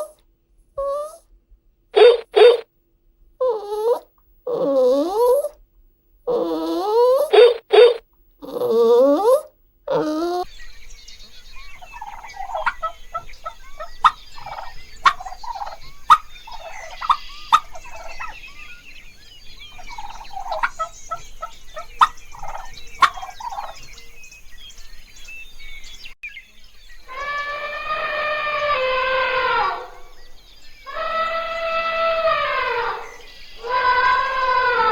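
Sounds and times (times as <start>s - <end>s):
small birds chirping: 0.0s - 0.2s, 0.8s - 1.2s, 2.0s - 2.6s, 3.4s - 5.6s, 6.3s - 34.9s
farm fowl calling: 0.8s - 1.2s, 2.0s - 2.6s, 6.3s - 25.4s, 26.6s - 34.9s.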